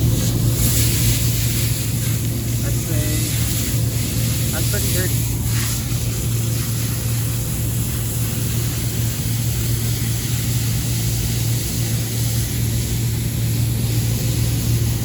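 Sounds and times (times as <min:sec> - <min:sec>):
air conditioner hum: 0:00.0 - 0:15.0.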